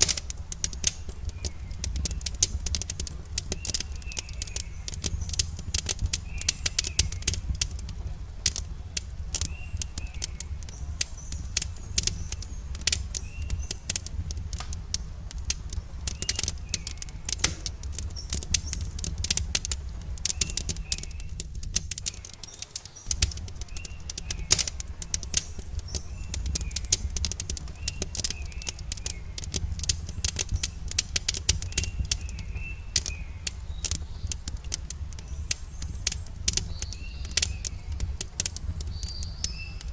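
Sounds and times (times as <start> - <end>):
campfire crackling and popping: 0.0 - 39.9
small birds chirping: 0.0 - 39.9.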